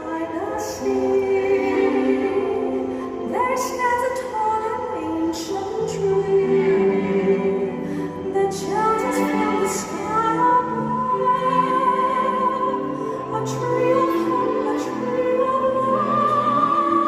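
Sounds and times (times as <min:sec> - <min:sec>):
woman singing operatic notes: 0:00.0 - 0:17.0.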